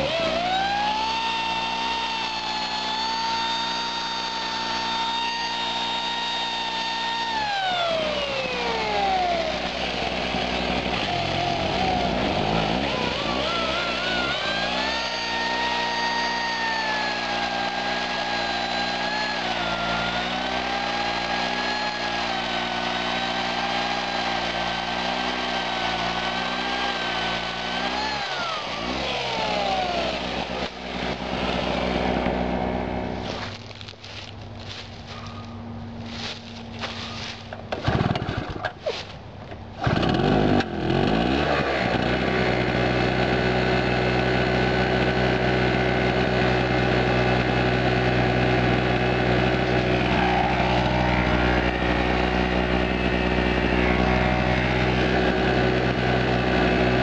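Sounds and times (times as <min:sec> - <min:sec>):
electric chainsaw whine: 0:00.0 - 0:57.0
generator engine running: 0:00.0 - 0:57.0.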